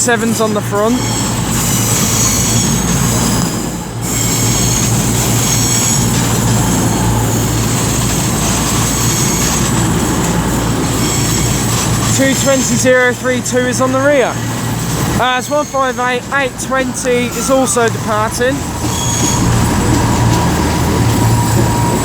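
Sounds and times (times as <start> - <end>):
train engines rumbling: 0.0 - 22.0
train wheels squealing: 0.0 - 22.0.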